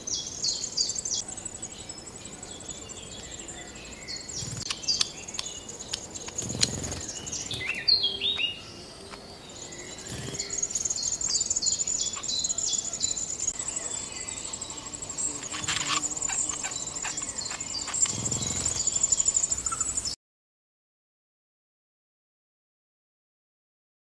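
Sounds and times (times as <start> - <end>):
bird pulsing trill: 0.0 - 20.2.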